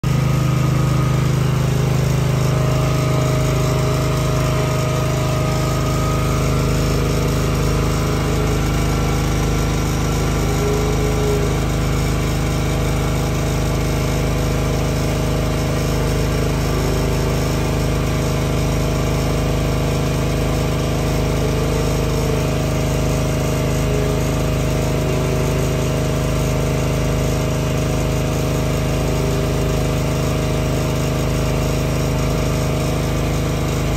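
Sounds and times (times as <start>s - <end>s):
engine-driven machine humming: 0.0s - 33.9s.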